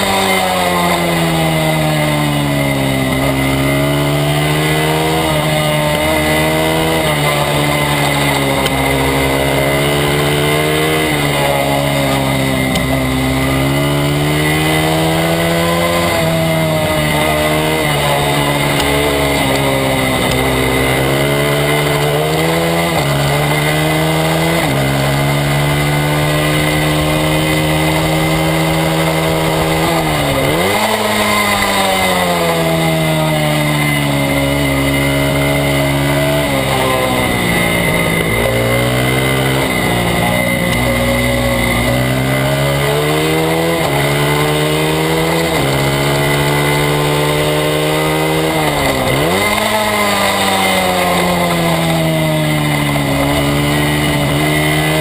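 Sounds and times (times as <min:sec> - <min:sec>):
motorcycle engine revving: 0:00.0 - 0:55.0
high whine: 0:00.9 - 0:54.8.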